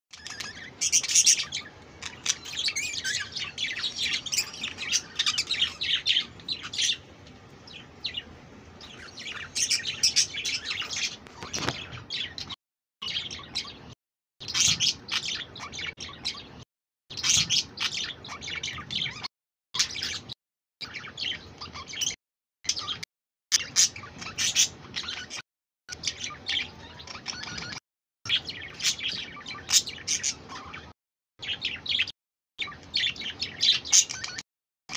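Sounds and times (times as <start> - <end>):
budgerigars chirping: 0.2 - 7.1, 7.7 - 23.0, 23.6 - 34.4.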